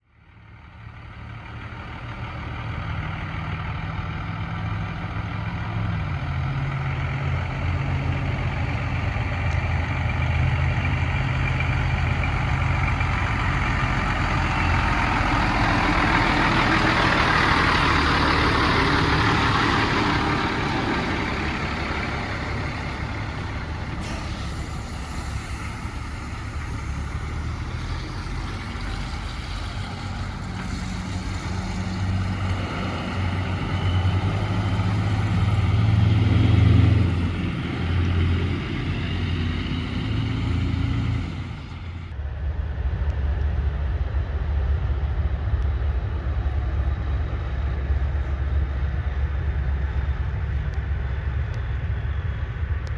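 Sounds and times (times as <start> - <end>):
road and tyre noise: 0.0 - 52.9
heavy truck engine passing: 0.1 - 52.9.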